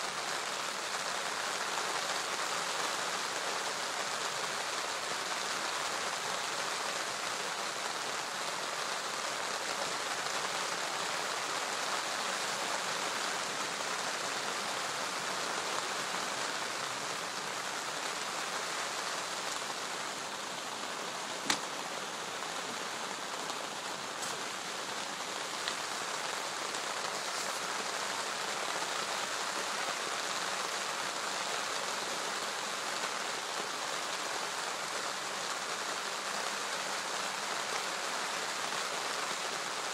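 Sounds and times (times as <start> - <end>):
rain falling on a lake: 0.0 - 39.9.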